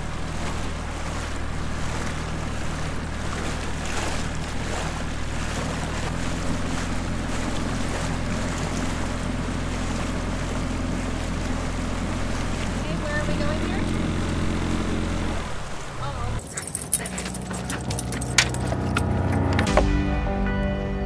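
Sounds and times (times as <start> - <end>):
outboard motor drone: 0.0 - 20.2
water rushing along hull: 0.0 - 20.2.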